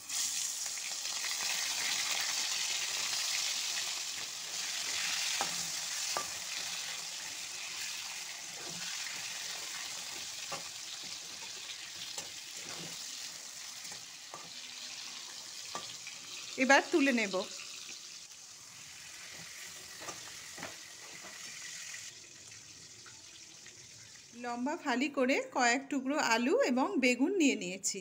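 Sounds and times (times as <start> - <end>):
prawns sizzling in oil: 0.0 - 24.4.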